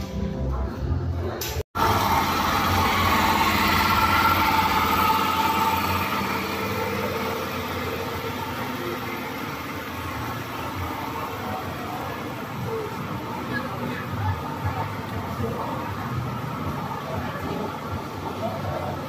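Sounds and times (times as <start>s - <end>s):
ride machinery rumbling: 0.5s - 19.0s
whining tones: 1.8s - 18.9s.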